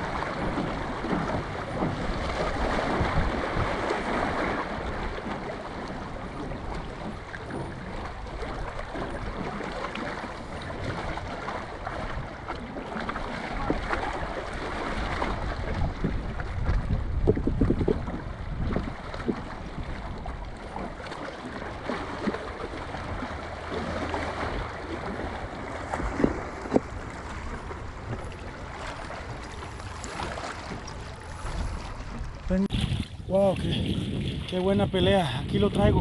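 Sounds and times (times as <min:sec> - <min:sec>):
water sounds: 0:00.0 - 0:36.0
wind buffeting microphone: 0:00.0 - 0:36.0.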